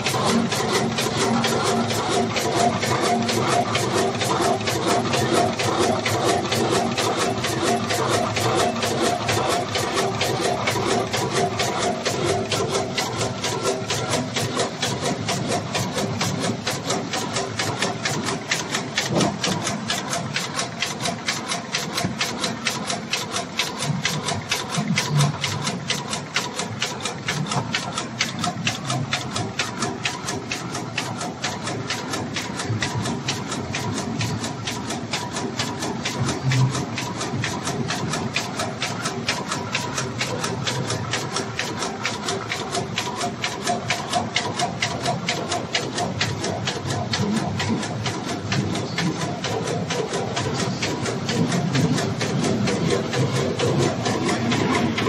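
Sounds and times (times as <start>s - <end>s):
machine rapid mechanical clatter: 0.0s - 55.0s.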